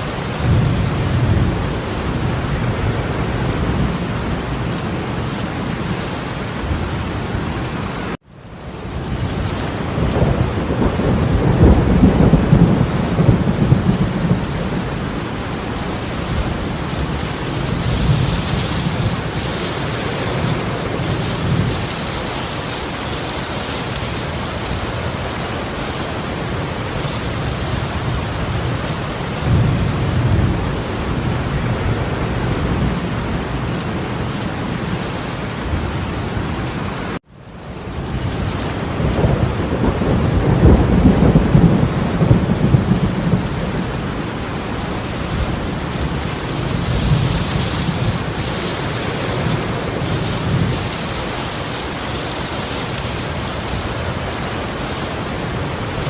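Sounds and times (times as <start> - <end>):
torrential rain: 0.0 - 56.0.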